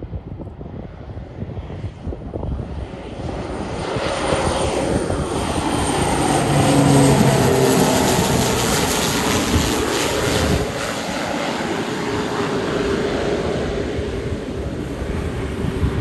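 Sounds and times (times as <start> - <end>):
steady propeller hum: 0.0 - 16.0
turboprop plane engine noise: 0.0 - 16.0
wind buffeting microphone: 0.0 - 16.0
high turbine whine: 2.1 - 16.0.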